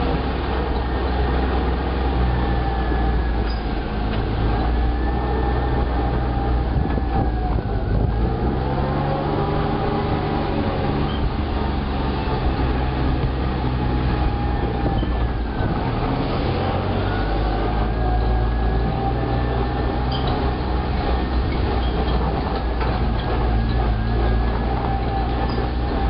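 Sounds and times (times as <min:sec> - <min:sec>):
small vehicle engine running: 0:00.0 - 0:26.0.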